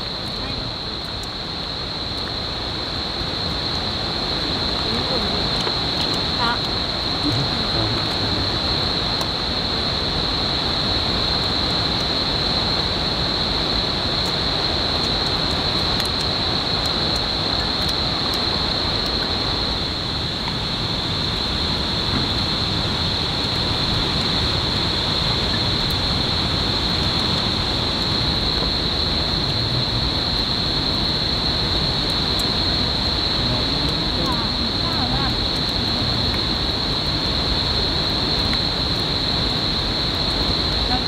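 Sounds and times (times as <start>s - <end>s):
rushing outdoor noise: 0.0s - 41.0s.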